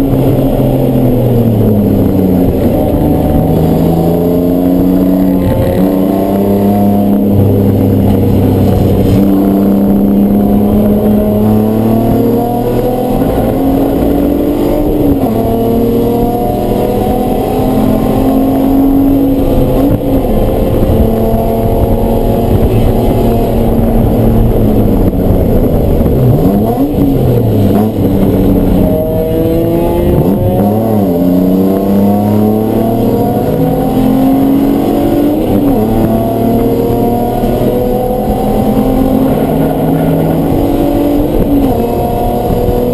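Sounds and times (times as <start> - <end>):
race car engine at high revs: 0.0 - 42.9.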